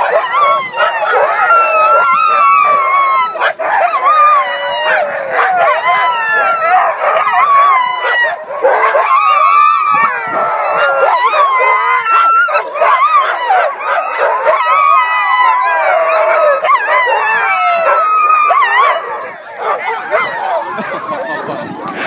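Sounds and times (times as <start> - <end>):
sled dogs howling and barking: 0.0 - 22.0.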